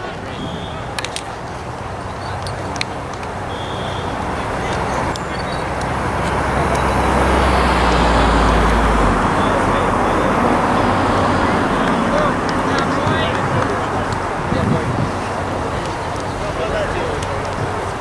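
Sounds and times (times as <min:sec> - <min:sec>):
motor vehicle engine droning: 0:00.0 - 0:18.0.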